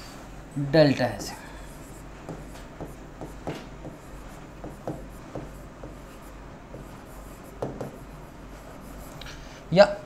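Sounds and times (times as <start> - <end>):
marker pen writing on whiteboard: 0.8 - 9.4.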